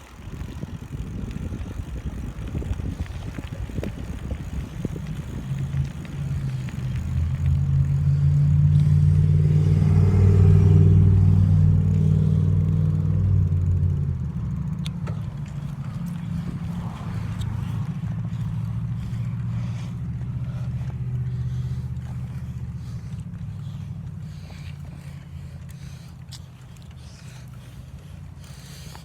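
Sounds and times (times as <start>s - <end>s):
wind buffeting microphone: 0.0s - 14.4s, 15.2s - 26.1s
steady low hum: 0.0s - 29.0s.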